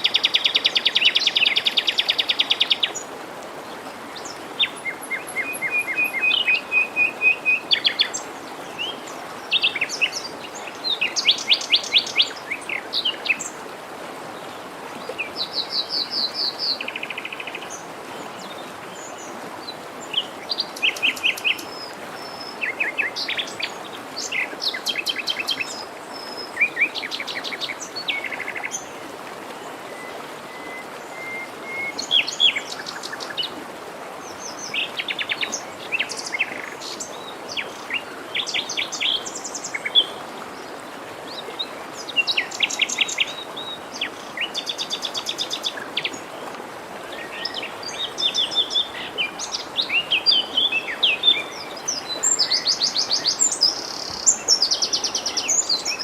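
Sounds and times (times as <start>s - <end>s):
forest stream rushing: 0.0s - 56.0s
songbirds singing: 4.0s - 13.6s, 14.4s - 33.6s, 34.2s - 56.0s.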